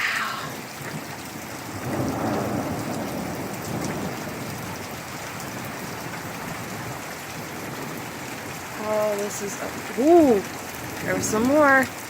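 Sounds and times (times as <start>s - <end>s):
thunder rumbling: 0.0s - 11.9s
heavy rain pouring: 0.0s - 12.0s.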